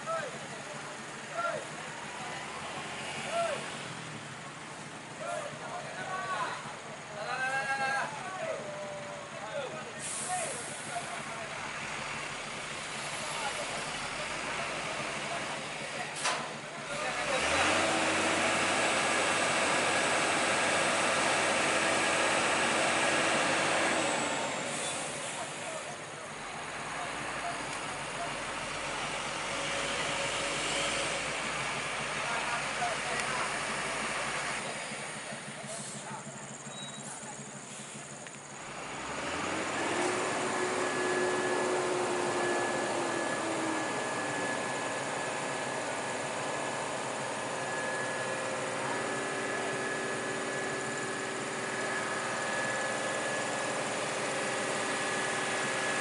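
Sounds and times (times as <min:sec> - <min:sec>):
truck engine running hard: 0:00.0 - 0:56.0.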